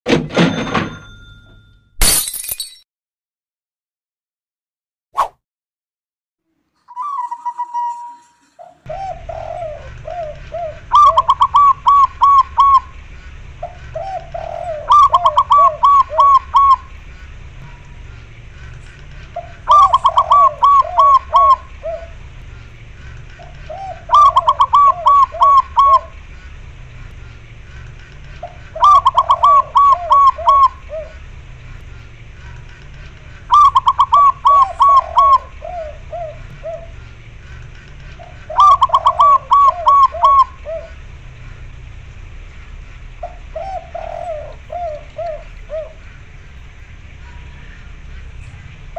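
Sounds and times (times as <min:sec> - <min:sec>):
doves cooing: 0:06.9 - 0:48.9
steady low hum: 0:08.3 - 0:48.9.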